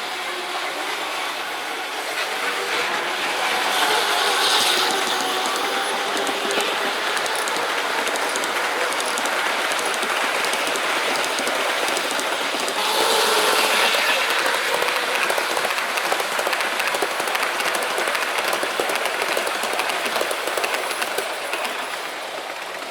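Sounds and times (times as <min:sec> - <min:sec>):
model train rattling on track: 0:00.0 - 0:22.9
metal wheels clicking on rails: 0:01.8 - 0:22.9.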